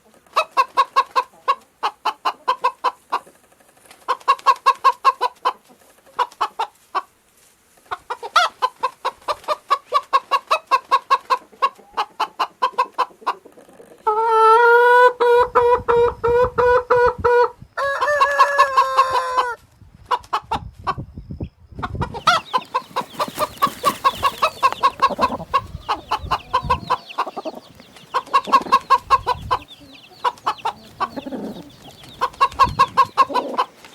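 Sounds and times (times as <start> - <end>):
chickens clucking: 0.0 - 21.1, 21.7 - 33.9
long drawn-out chicken calls: 0.0 - 21.1, 21.8 - 33.9.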